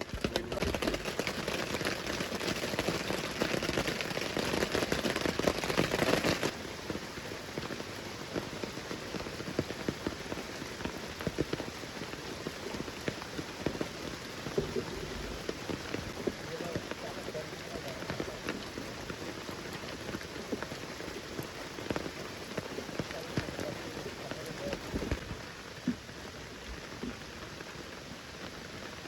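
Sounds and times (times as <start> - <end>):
rain patter: 0.0 - 29.0.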